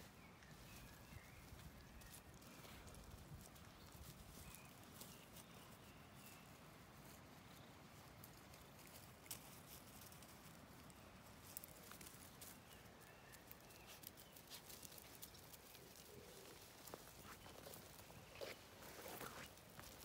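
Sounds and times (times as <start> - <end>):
rustles: 0.0 - 20.0.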